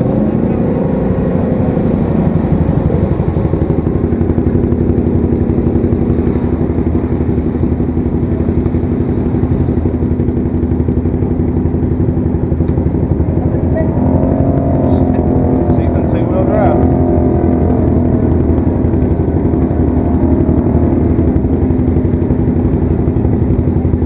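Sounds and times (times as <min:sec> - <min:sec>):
vehicle engine running at low revs: 0:00.0 - 0:24.0.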